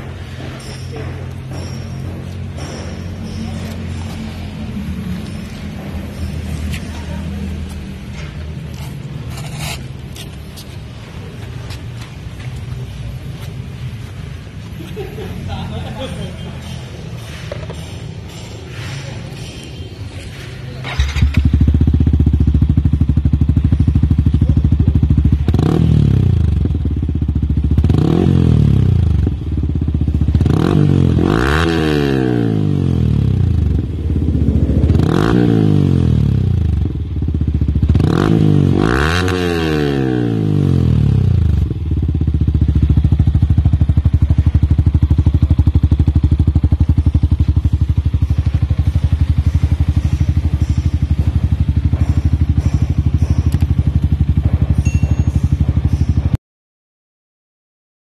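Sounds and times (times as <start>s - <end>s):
motorcycle engine idling and revving: 0.0s - 56.4s.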